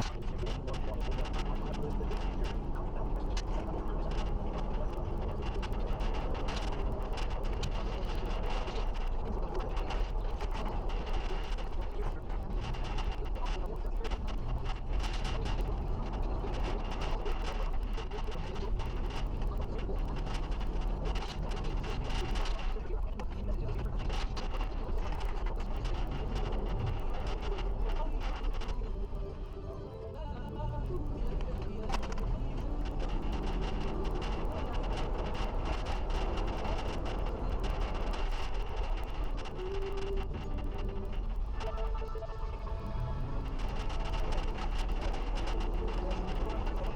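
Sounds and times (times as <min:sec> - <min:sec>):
road and wind noise: 0:00.0 - 0:46.9.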